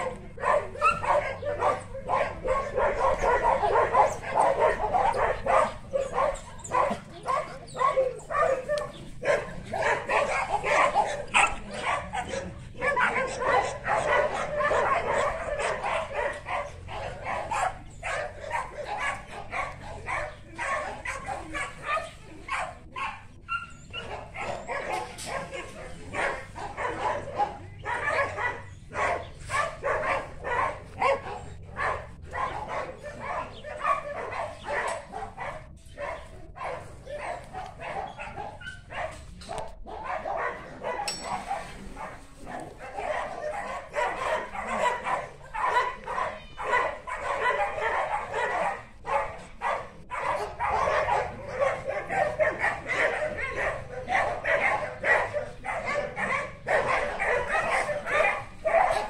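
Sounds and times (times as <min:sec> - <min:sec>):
dogs barking and yipping: 0:00.0 - 0:59.0.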